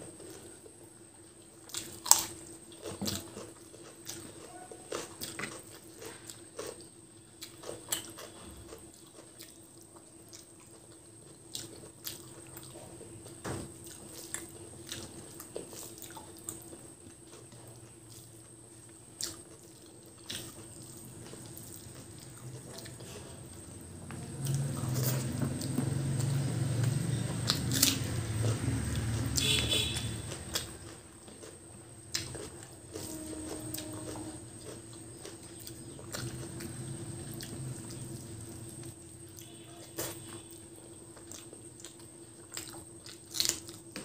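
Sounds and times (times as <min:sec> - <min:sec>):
faint steady hum: 0:00.0 - 0:44.0
chewing and mouth smacks: 0:01.4 - 0:13.0, 0:13.8 - 0:44.0.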